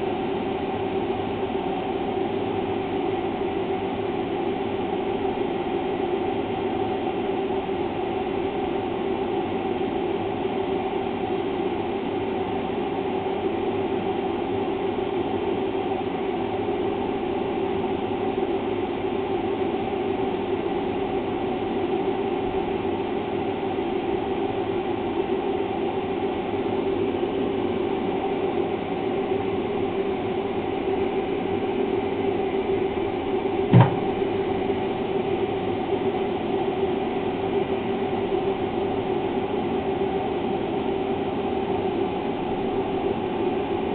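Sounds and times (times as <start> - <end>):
mechanical hum and rumble: 0.0 - 43.9.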